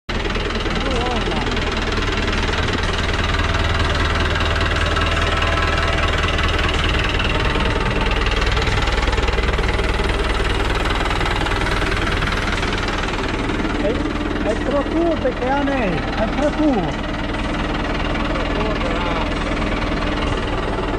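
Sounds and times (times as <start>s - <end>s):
tractor diesel engine running: 0.1s - 20.9s.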